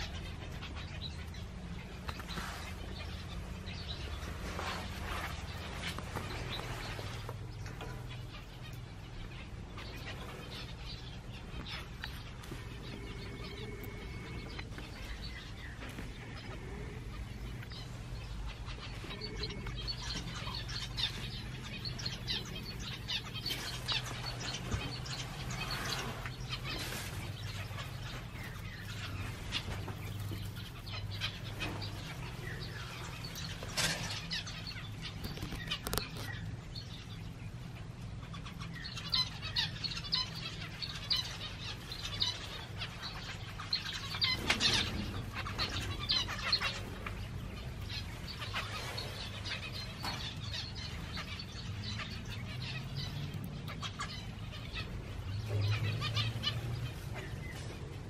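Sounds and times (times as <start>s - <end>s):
finches chirping and calling: 0.0s - 58.0s
low steady hum: 0.0s - 58.0s.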